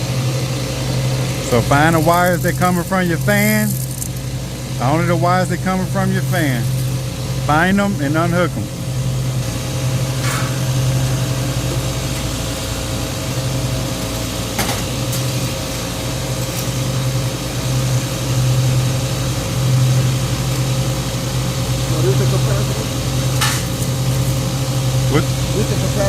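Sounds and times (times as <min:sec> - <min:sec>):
motor drone with low hum: 0:00.0 - 0:26.0.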